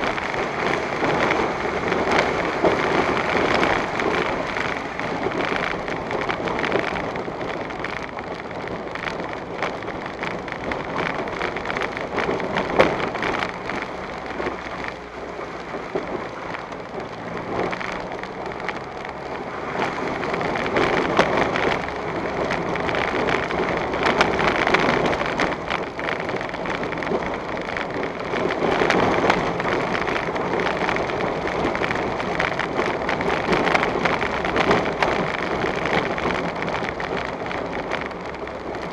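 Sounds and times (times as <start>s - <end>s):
vehicle driving on dirt road: 0.0s - 38.9s.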